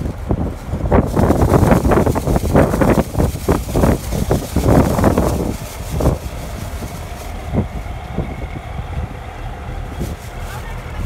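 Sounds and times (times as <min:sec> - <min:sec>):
faint hum: 0:00.0 - 0:11.0
wind buffeting microphone: 0:00.0 - 0:11.0.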